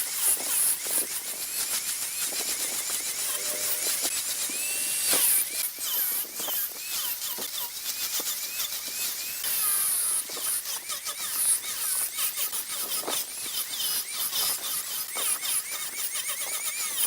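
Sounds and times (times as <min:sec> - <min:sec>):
lathe tool scraping wood: 0:00.0 - 0:17.0
tool squealing on wood: 0:00.0 - 0:17.0.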